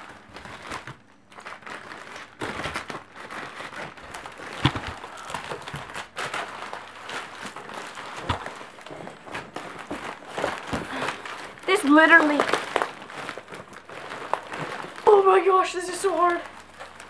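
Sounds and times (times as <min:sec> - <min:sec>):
packaging crinkling and tearing: 0:00.0 - 0:17.0.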